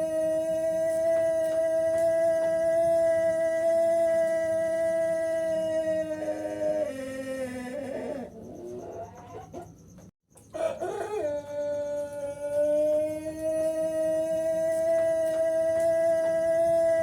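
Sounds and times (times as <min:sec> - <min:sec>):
rooster crowing: 0:00.0 - 0:09.7, 0:10.4 - 0:17.0.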